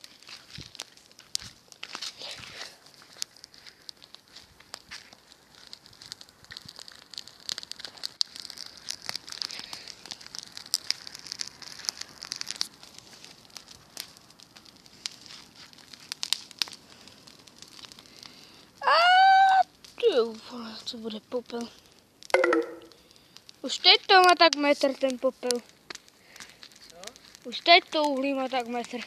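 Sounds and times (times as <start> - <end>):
bonfire crackling with sharp snaps: 0.0 - 29.0.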